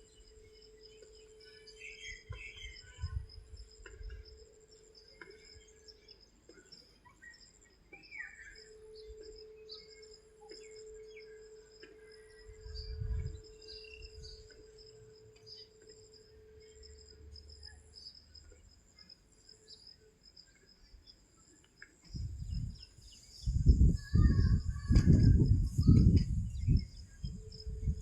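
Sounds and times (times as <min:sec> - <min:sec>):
pulsing insect trill: 0:00.0 - 0:28.0.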